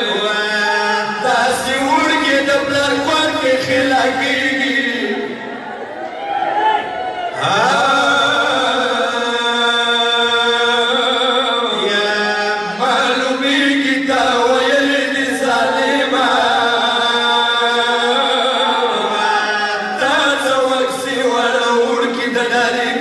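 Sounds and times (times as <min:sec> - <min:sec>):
men chanting into microphones: 0:00.0 - 0:05.6, 0:07.3 - 0:23.0.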